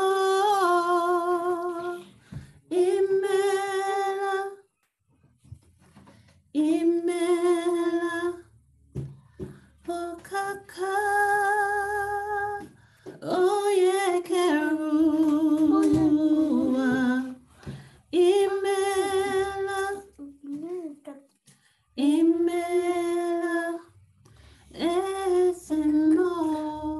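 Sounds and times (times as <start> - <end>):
woman singing unaccompanied: 0.0 - 4.7, 6.5 - 8.5, 9.8 - 20.6, 22.0 - 24.0, 24.7 - 26.9.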